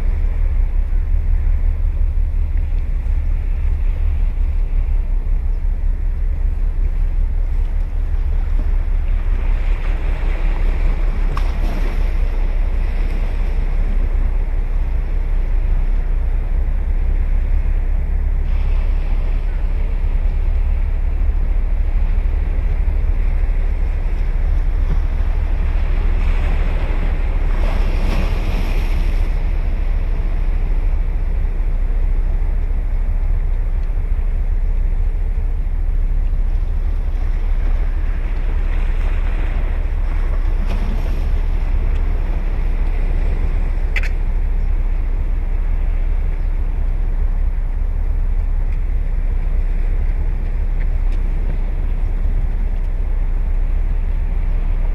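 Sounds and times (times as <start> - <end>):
low wind rumble on microphone: 0.0 - 54.9
ocean waves breaking on shore: 0.0 - 54.9.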